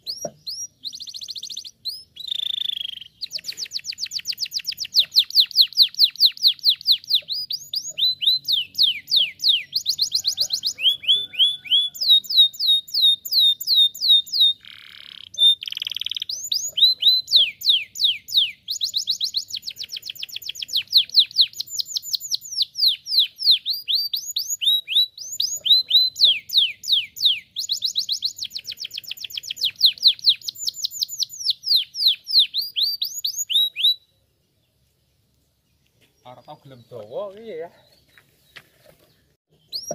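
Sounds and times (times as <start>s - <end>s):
canary singing trills: 0.0s - 34.8s, 35.7s - 39.9s.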